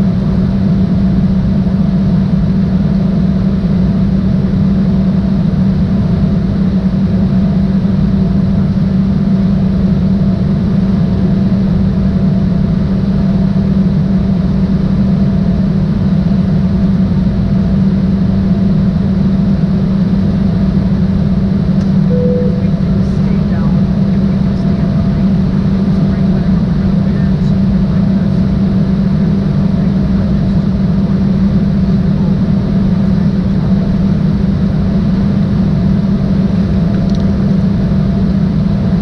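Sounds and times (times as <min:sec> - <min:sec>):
jet cabin engine drone: 0:00.0 - 0:39.0.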